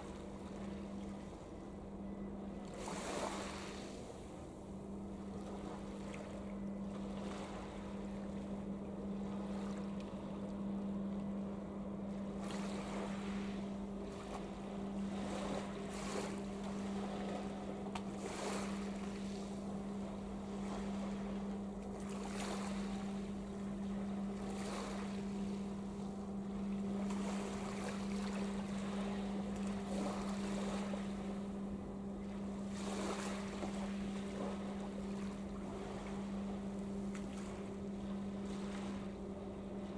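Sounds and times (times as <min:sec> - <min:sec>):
ship engine drone: 0:00.0 - 0:39.9.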